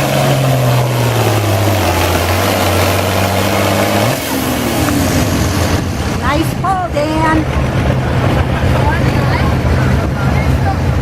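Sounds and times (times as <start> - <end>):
tractor engine under heavy load: 0.0 - 11.0.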